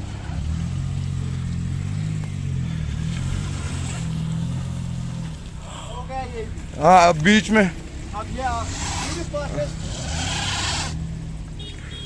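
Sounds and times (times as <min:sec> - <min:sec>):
car engine droning under throttle: 0:00.0 - 0:12.0.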